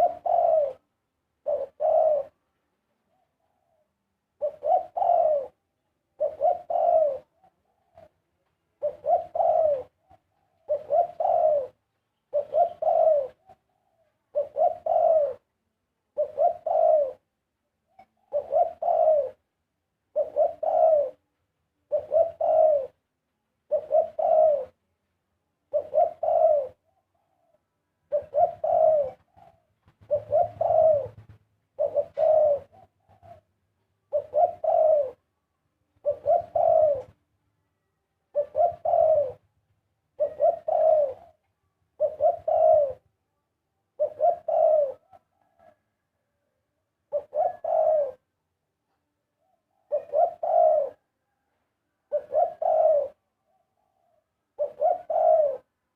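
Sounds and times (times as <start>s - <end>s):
dove cooing: 0.0s - 2.4s, 3.0s - 15.5s, 16.1s - 17.3s, 17.9s - 19.5s, 20.1s - 23.0s, 23.6s - 24.8s, 25.7s - 35.3s, 36.0s - 37.3s, 38.3s - 43.2s, 43.9s - 48.4s, 49.4s - 55.8s.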